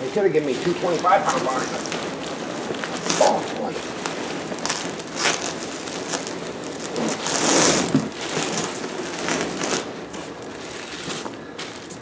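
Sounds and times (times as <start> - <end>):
foam packing peanuts rustling: 0.0 - 12.0
plastic bag crinkling: 0.0 - 12.0.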